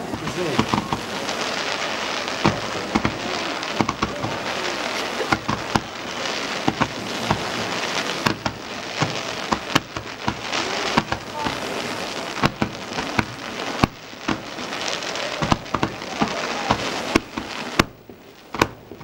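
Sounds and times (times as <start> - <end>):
fireworks cracks and pops: 0.0 - 19.0
fireworks hissing: 0.0 - 19.0.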